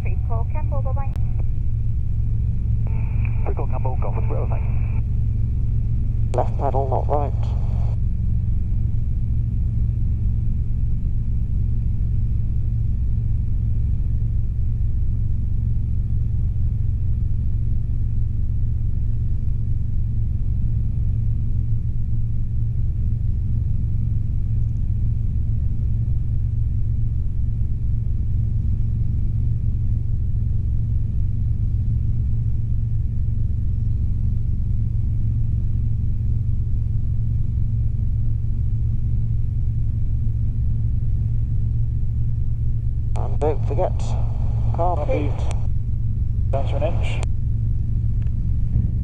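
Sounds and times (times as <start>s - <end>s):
faint high whine: 0.0s - 49.0s
helicopter engine and rotors droning: 0.0s - 49.0s.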